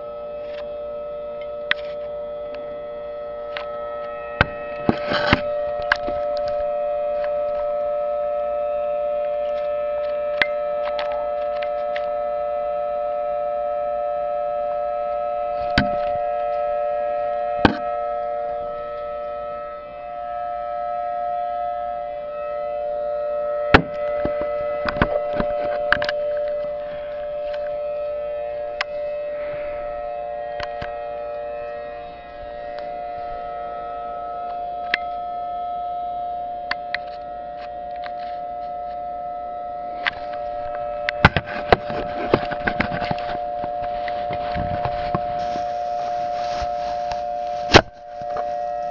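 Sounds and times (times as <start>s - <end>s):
civil defense siren through laptop speakers: 0.0s - 48.9s.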